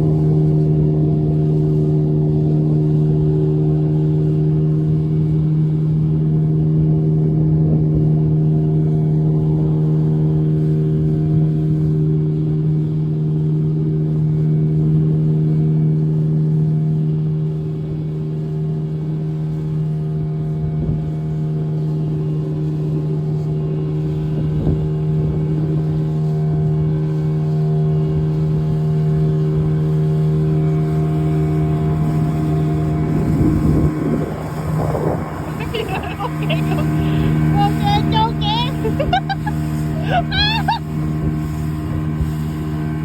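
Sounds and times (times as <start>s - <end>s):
motorboat engine humming: 0.0s - 43.0s.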